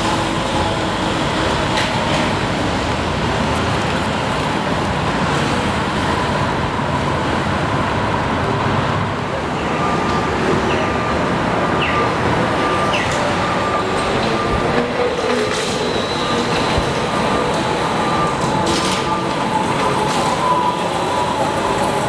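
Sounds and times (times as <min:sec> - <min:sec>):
street traffic: 0:00.0 - 0:22.0
trolleybus high whine: 0:00.0 - 0:22.0.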